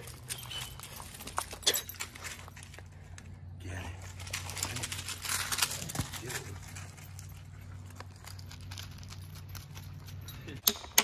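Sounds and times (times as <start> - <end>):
dog paws crunching on gravel: 0.0 - 10.3.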